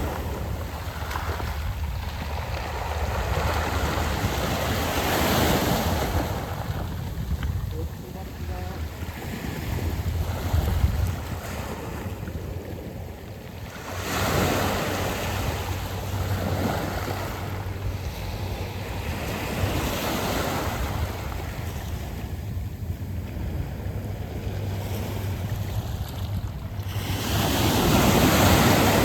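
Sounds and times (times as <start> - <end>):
waves washing over pebbles: 0.0 - 29.0.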